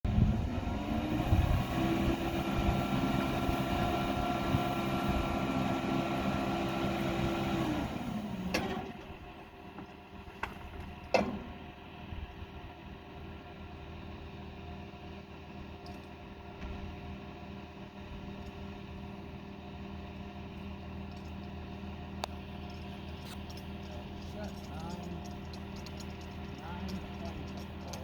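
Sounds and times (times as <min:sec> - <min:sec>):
engine running: 0:00.1 - 0:28.0.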